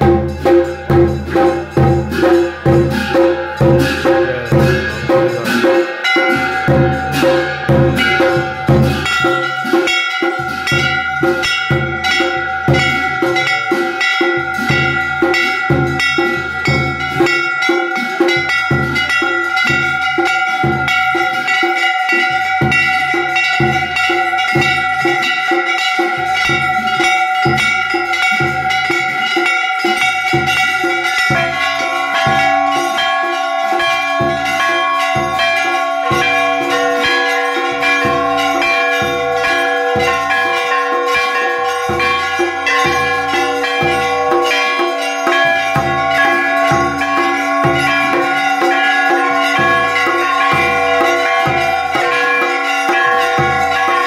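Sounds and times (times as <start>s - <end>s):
brass bells ringing rapidly: 0.0s - 54.0s
drum beats: 0.0s - 54.0s.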